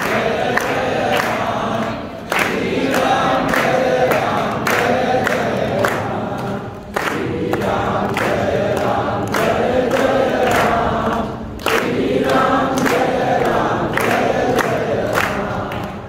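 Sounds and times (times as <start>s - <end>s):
group singing devotional chant: 0.0s - 16.0s.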